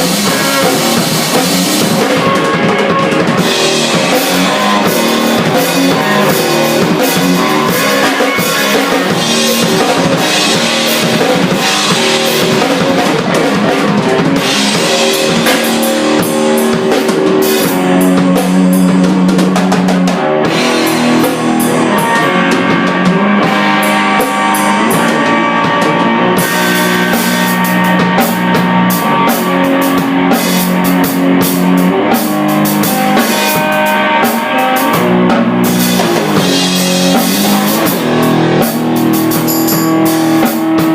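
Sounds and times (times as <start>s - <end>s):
busy drumming with cymbals: 0.0s - 40.9s
electric guitar long notes: 0.0s - 40.9s.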